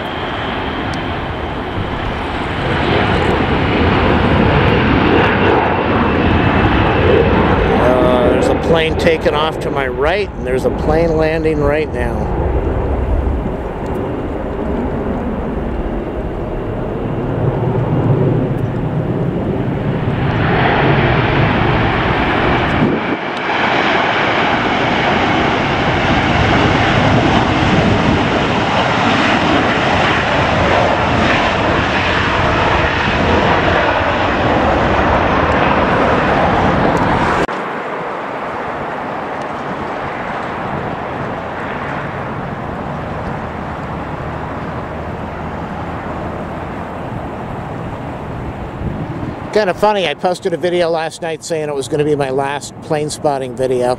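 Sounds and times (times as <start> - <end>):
jet engines roaring: 0.0 - 53.9.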